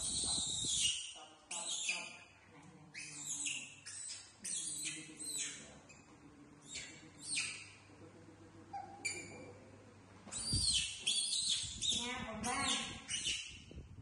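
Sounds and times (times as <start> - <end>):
baby monkeys squeaking: 0.0 - 2.3, 2.9 - 7.9, 8.7 - 9.5, 10.3 - 13.7.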